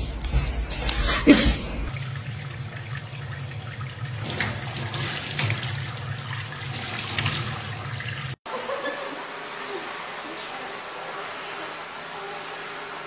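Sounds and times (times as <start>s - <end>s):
water running into a metal sink: 1.3s - 13.0s
water splashing: 1.9s - 13.0s.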